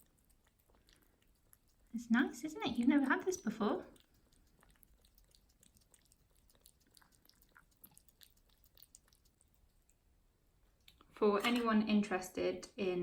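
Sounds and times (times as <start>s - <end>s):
cat chewing wet food: 0.0s - 11.1s.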